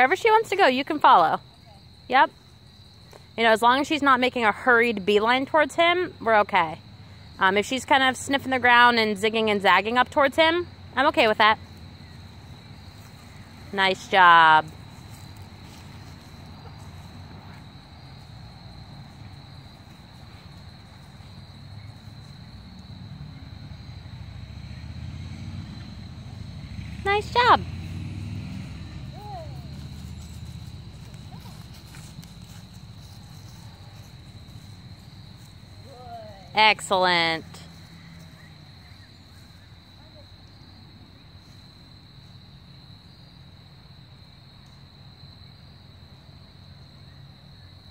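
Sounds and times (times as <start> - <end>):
high-pitched insect chorus: 0.0 - 47.9.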